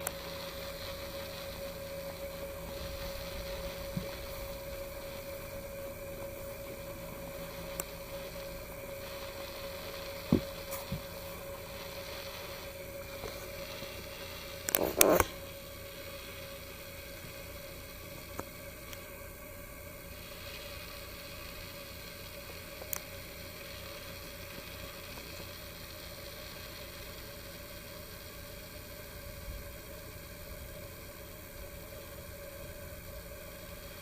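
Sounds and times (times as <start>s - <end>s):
even hiss: 0.0s - 34.0s
steady hum: 0.0s - 34.0s.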